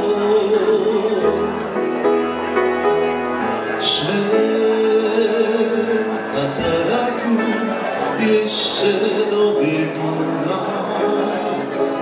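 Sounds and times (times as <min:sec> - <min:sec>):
person singing: 0:00.0 - 0:02.3, 0:03.5 - 0:12.0
instrumental accompaniment: 0:00.0 - 0:12.0.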